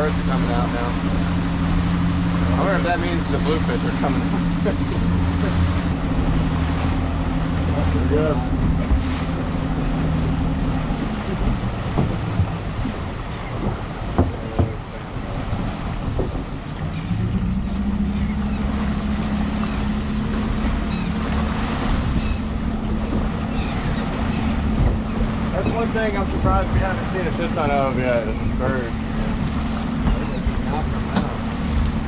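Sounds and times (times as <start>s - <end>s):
outboard motor humming: 0.0s - 32.0s
water rushing past hull: 0.0s - 32.0s
wind: 0.0s - 32.0s.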